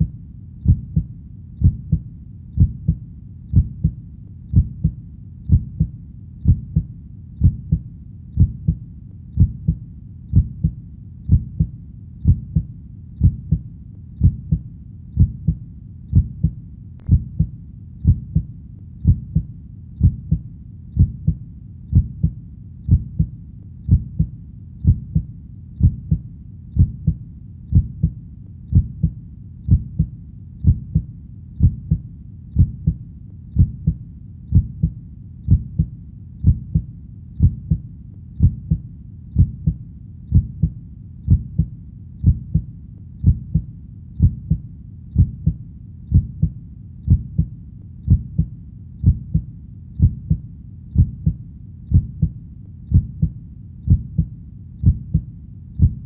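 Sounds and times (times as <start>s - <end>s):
human heartbeat: 0.0s - 56.0s.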